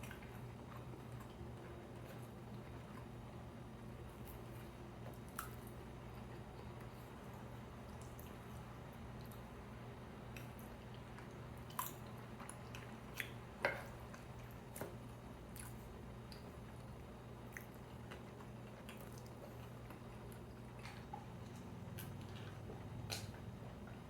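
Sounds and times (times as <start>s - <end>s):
chewing food: 0.0s - 9.6s, 10.3s - 24.0s.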